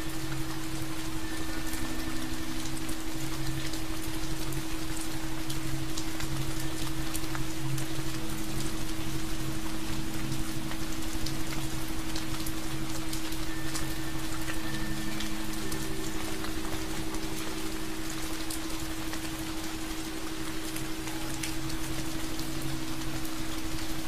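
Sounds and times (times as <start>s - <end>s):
low steady tones: 0.0s - 24.0s
steady rain: 0.0s - 24.0s.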